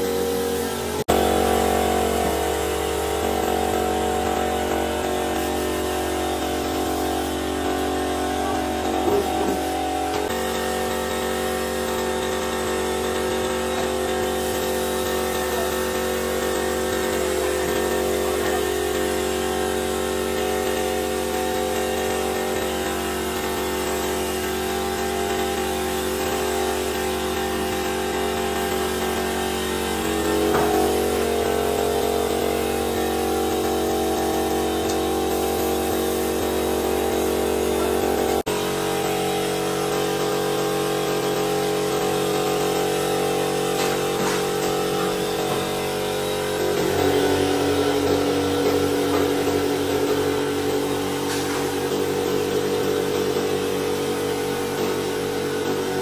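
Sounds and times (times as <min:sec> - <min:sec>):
air compressor humming: 0:00.0 - 0:56.0
spray gun hissing: 0:00.0 - 0:56.0.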